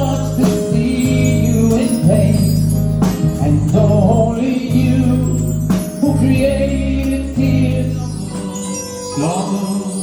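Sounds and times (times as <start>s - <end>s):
bass notes: 0.0s - 9.6s
drums and cymbals: 0.0s - 10.0s
keyboard chords: 0.0s - 10.0s.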